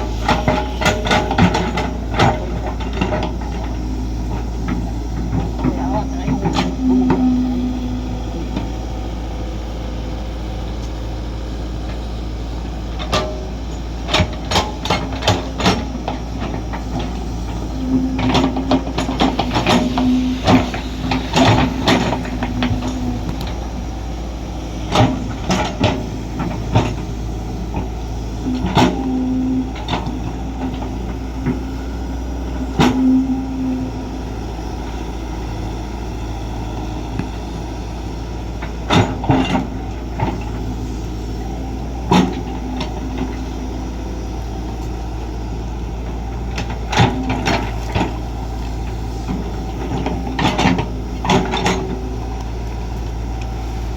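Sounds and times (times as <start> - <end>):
digging knocks and clanks: 0.0 - 8.8, 12.9 - 35.8, 36.4 - 53.6
excavator diesel engine: 0.0 - 53.9
low hum: 0.0 - 53.9.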